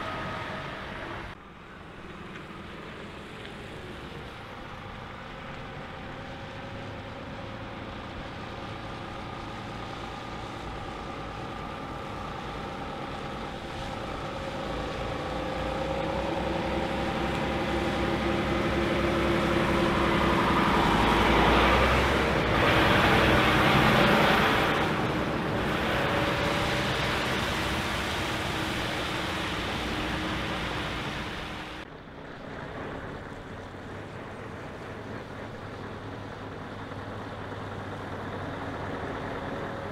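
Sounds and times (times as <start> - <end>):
another truck engine: 0.0 - 39.9
truck diesel engine passing: 0.0 - 39.9.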